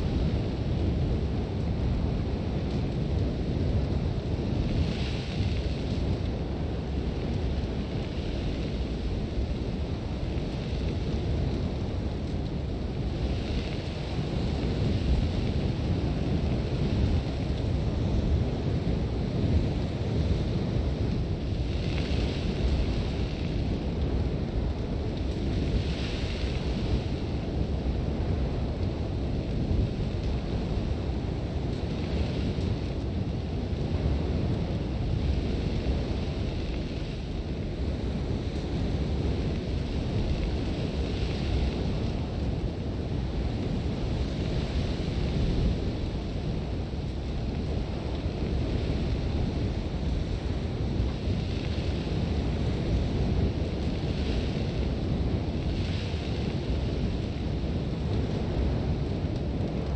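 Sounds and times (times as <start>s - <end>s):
strong wind with deep rumble: 0.0s - 59.9s.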